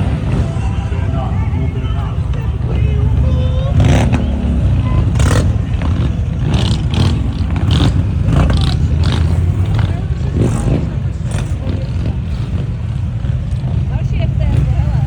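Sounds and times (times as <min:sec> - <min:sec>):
motorcycle engines rumbling: 0:00.0 - 0:15.0
people's voices: 0:00.0 - 0:15.0.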